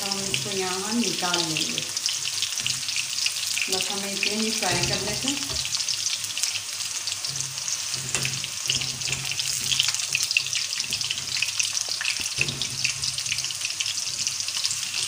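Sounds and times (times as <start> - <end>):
vegetables deep-frying crackling: 0.0 - 15.0.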